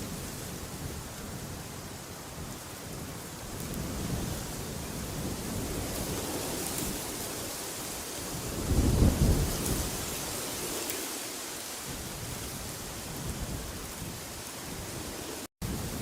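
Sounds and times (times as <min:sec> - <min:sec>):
rushing wind: 0:00.0 - 0:16.0.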